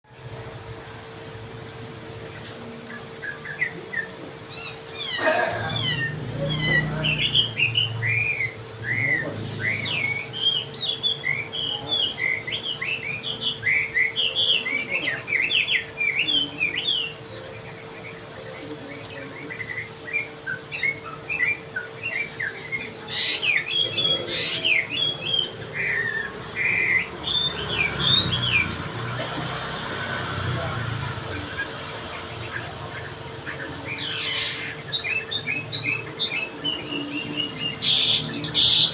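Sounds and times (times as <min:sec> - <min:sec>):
songbird singing: 0:00.0 - 0:38.9
faint hum: 0:00.1 - 0:38.9.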